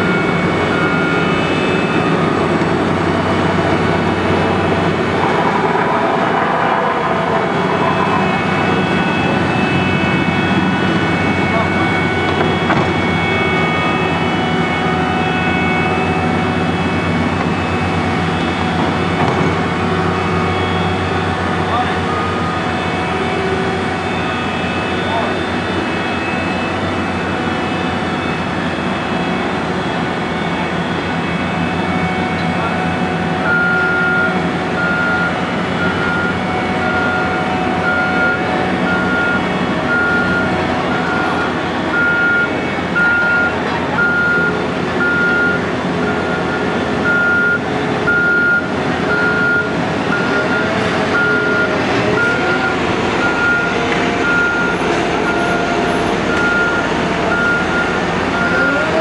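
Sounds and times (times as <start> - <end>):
backup alarm beeping: 0.0 - 59.0
heavy diesel engines running: 0.0 - 59.0.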